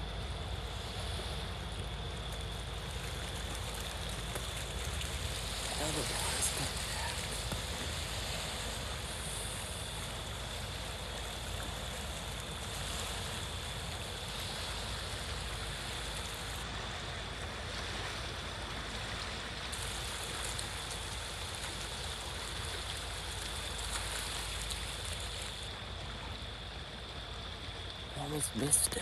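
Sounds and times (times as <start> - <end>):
rushing canal water: 0.0 - 29.0.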